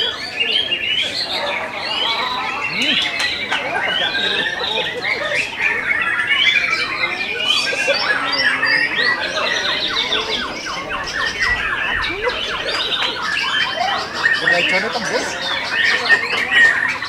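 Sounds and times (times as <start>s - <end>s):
birds singing in chorus: 0.0s - 17.0s.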